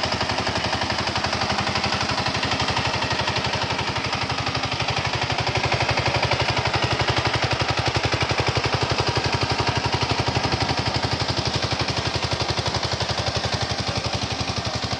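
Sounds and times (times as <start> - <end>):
tiller engine thudding exhaust: 0.0 - 14.9.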